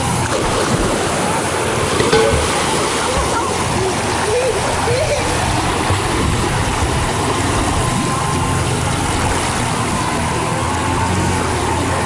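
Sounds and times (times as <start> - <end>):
water splashing in a pool: 0.0 - 12.0.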